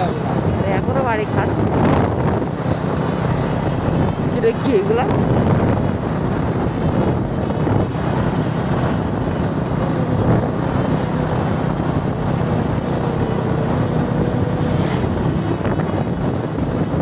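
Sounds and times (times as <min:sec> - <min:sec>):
motorcycle engine drone: 0:00.0 - 0:17.0
wind noise on microphone: 0:00.0 - 0:17.0.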